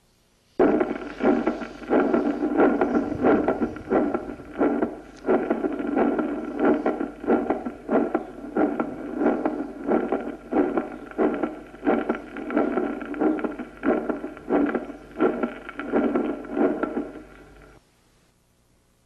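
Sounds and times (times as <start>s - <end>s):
heartbeat through stethoscope: 0.6s - 17.8s.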